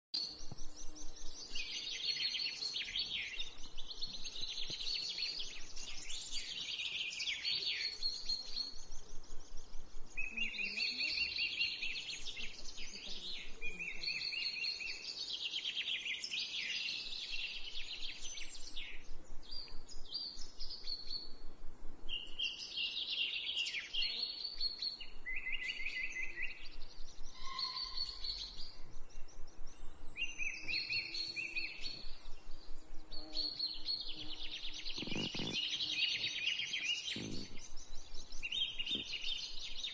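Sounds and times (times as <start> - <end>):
birds chirping and trilling: 0.2 - 39.9.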